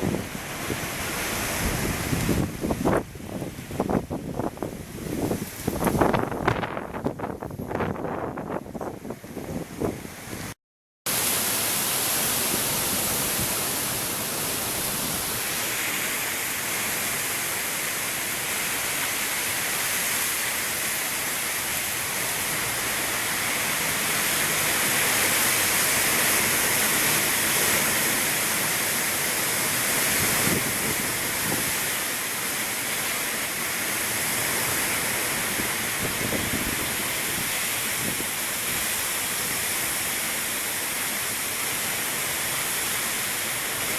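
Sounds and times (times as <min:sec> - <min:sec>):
heavy rain and strong wind: 0:00.0 - 0:43.9.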